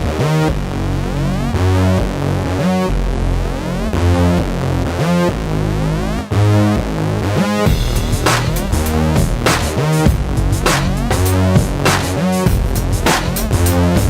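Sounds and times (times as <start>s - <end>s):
synthesizer chords: 0.0s - 14.0s.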